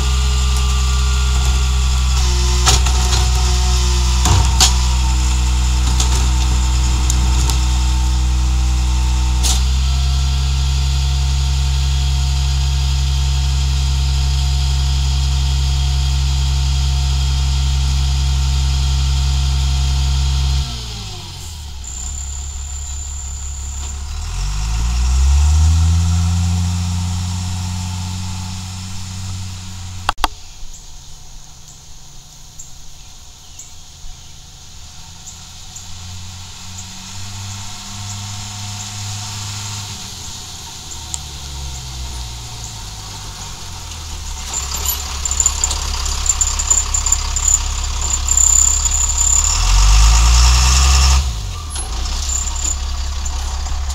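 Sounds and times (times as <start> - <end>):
garbage truck diesel engine: 0.0 - 30.3, 31.0 - 53.9.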